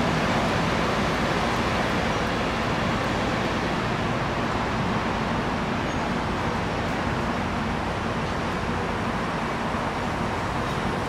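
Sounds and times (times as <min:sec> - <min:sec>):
train cars rumbling on rails: 0:00.0 - 0:11.0.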